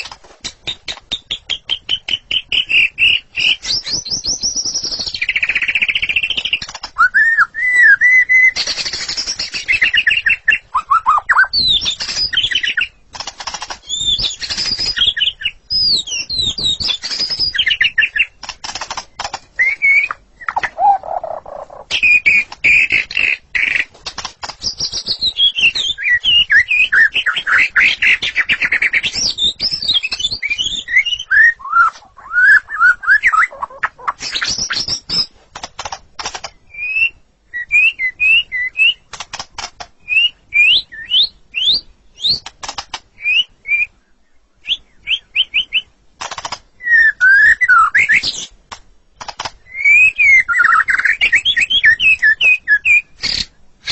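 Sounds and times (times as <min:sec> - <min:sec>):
sharp clicking bird notes: 0:00.0 - 0:32.1, 0:32.7 - 0:36.6, 0:38.8 - 0:40.7, 0:41.6 - 0:43.3, 0:45.0 - 0:53.9
songbird singing whistles: 0:00.6 - 0:13.0, 0:13.8 - 0:18.4, 0:19.2 - 0:23.9, 0:24.5 - 0:35.3, 0:36.4 - 0:39.1, 0:40.0 - 0:42.5, 0:43.2 - 0:45.9, 0:46.8 - 0:48.6, 0:49.6 - 0:53.9.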